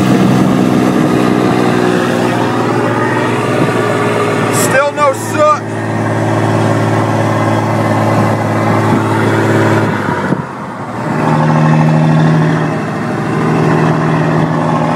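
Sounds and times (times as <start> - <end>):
diesel engine drone while driving: 0.0 - 14.9.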